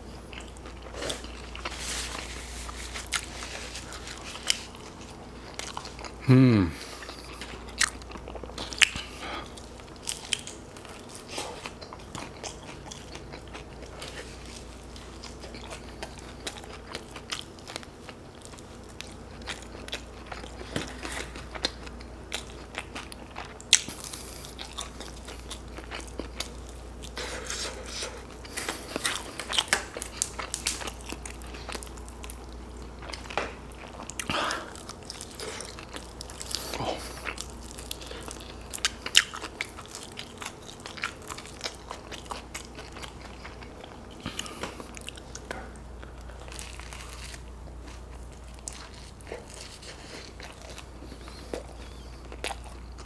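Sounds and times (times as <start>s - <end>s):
biting and chewing chicken wings: 0.2s - 53.0s.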